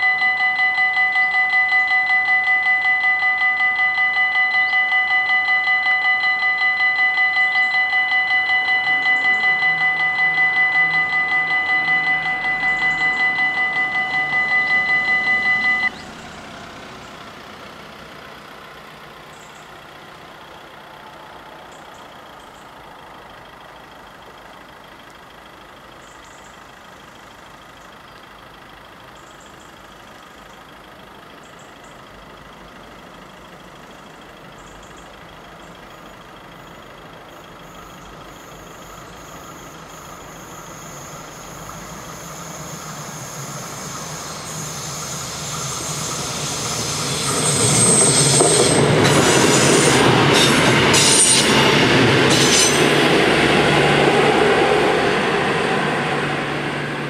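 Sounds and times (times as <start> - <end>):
crossing bell ringing: 0.0 - 27.9, 28.6 - 57.0
approaching diesel railcar: 0.0 - 57.0
road traffic hum: 0.0 - 57.0.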